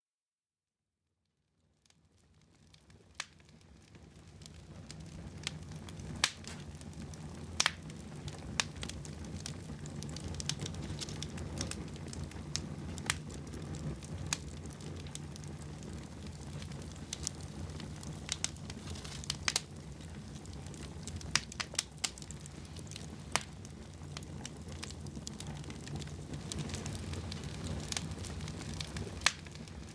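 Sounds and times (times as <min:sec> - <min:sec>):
low rumble of burning: 0:01.8 - 0:29.9
wood fire crackling: 0:01.8 - 0:29.9
sharp pops of fire: 0:02.7 - 0:29.9.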